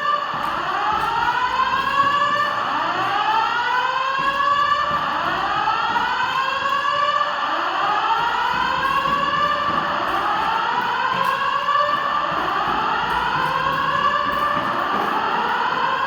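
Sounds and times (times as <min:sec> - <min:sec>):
fire alarm rising sweep tone: 0:00.0 - 0:16.0.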